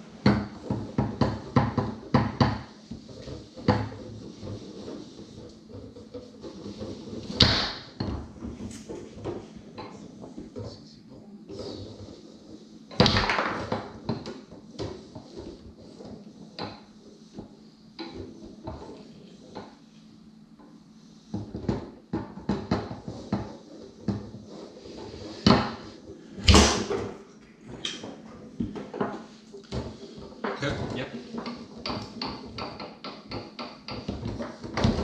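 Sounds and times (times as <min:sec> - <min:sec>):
foosball rods knocking: 0:00.0 - 0:20.0, 0:20.6 - 0:35.0
foosball ball clacking: 0:00.1 - 0:10.7, 0:11.6 - 0:19.8, 0:21.4 - 0:35.0.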